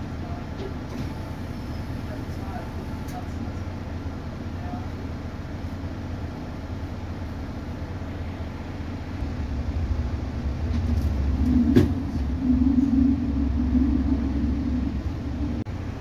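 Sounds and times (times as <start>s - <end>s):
bus engine idling: 0.0s - 16.0s
train rumble: 0.0s - 16.0s.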